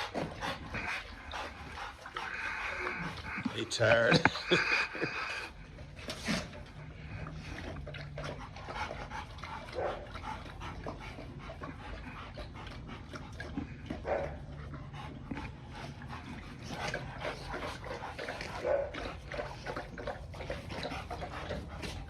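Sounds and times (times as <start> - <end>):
dogs panting: 0.0 - 22.0.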